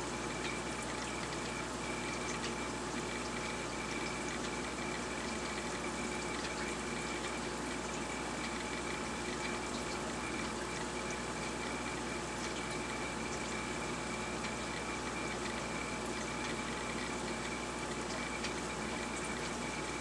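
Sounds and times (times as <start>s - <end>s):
aquarium filter and pump water: 0.0s - 20.0s.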